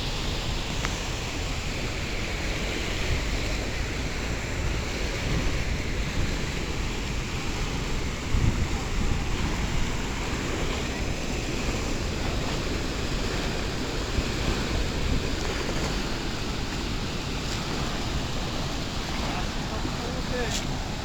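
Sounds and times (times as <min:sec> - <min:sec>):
moving water: 0:00.0 - 0:21.0
wind buffeting microphone: 0:00.0 - 0:21.0.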